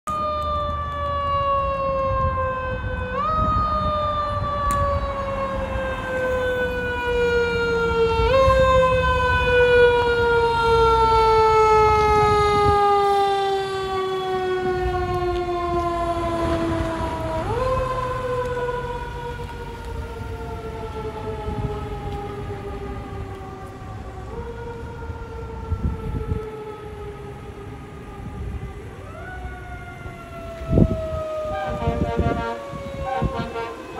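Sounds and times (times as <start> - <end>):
fire truck siren winding: 0.1 - 33.9.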